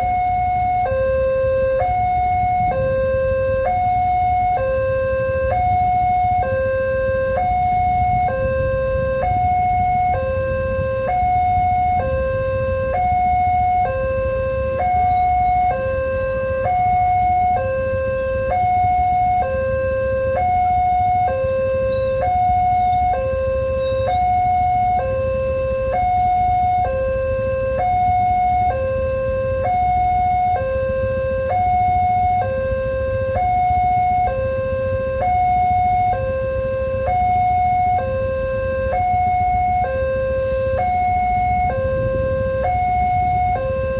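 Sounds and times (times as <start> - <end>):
continuous low rumble: 0.0 - 43.9
level crossing two-tone alarm: 0.0 - 43.9.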